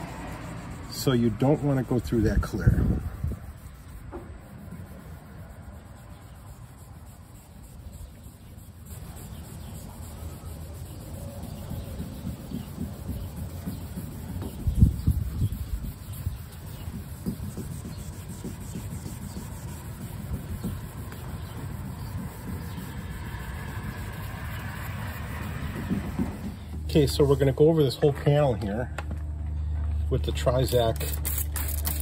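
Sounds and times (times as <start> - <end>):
wet sanding scrubbing: 0.0 - 28.0, 30.5 - 32.0.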